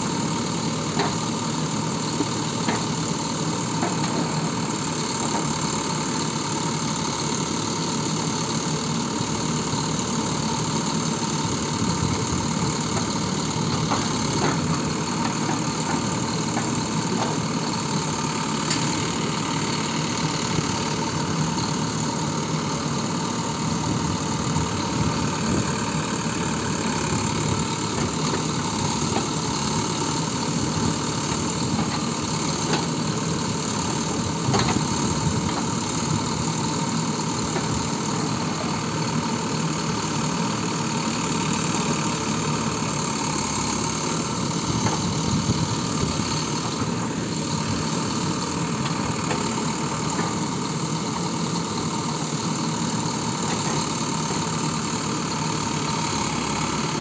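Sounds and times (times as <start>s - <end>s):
diesel engine running at low revs: 0.0s - 57.0s.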